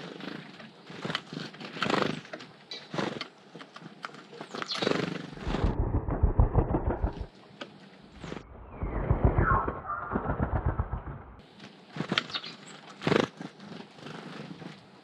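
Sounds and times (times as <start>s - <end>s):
bird wings fluttering: 0.0s - 15.0s.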